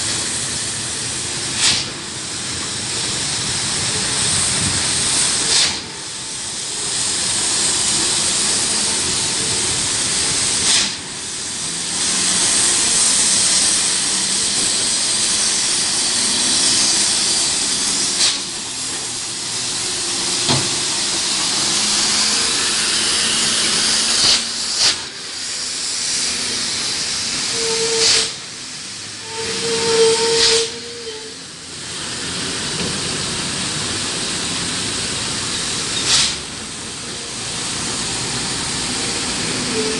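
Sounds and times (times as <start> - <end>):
diesel truck engines: 0.0 - 29.3, 31.4 - 39.9
tyres hissing on wet road: 0.0 - 39.9.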